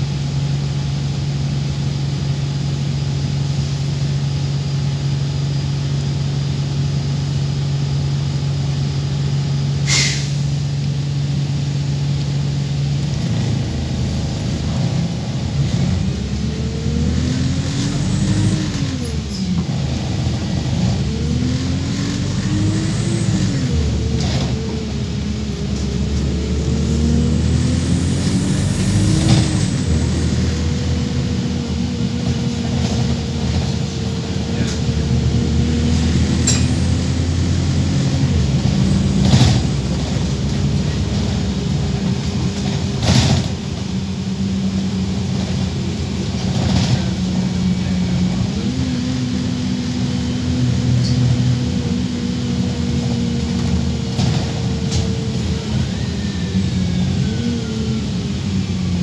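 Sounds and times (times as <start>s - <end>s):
bus engine idling and accelerating: 0.0s - 59.0s.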